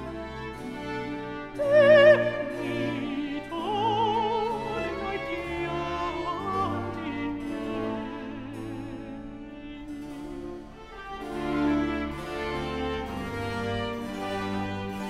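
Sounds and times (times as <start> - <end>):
string orchestra with harpsichord: 0.0 - 15.0
countertenor singing with vibrato: 0.2 - 13.0.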